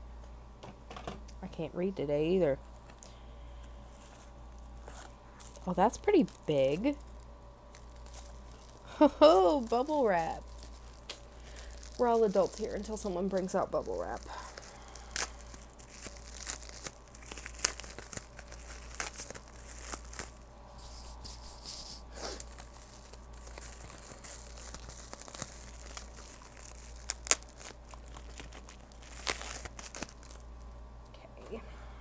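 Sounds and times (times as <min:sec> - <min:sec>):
bubble wrap crinkling: 0:02.5 - 0:30.9
bubble wrap popping: 0:03.6 - 0:30.8.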